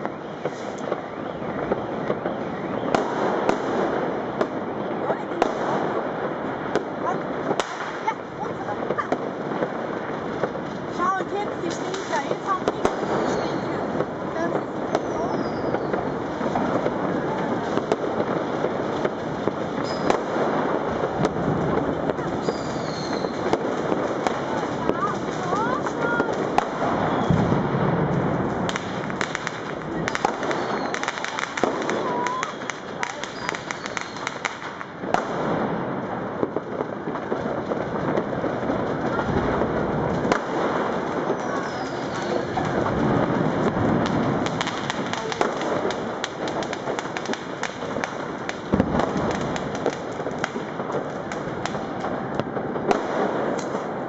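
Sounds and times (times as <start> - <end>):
firecrackers crackling: 0.0 - 54.0
sharp firework bangs: 0.0 - 54.0.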